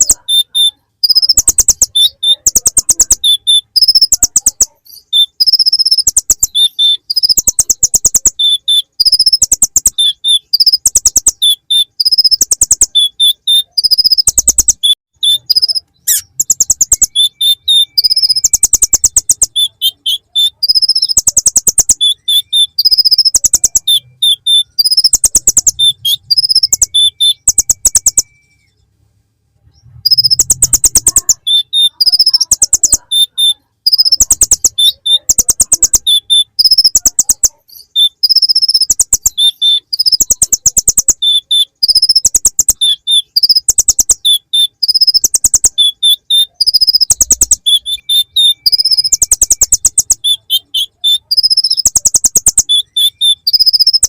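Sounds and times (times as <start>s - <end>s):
bird singing high trills: 0.0s - 28.8s, 29.8s - 54.0s.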